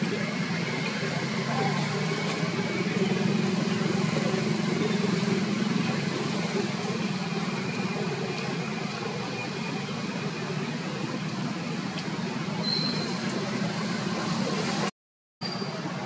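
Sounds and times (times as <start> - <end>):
low engine hum: 0.0 - 14.9.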